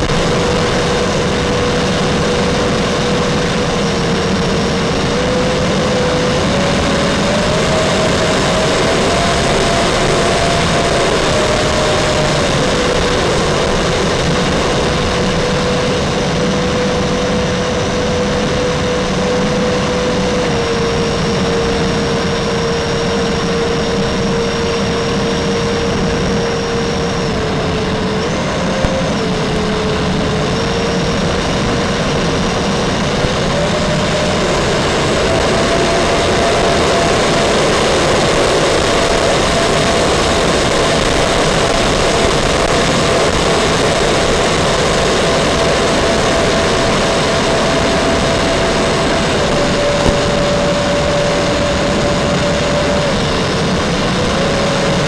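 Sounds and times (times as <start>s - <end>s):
model jet electric fans whining: 0.0s - 55.0s.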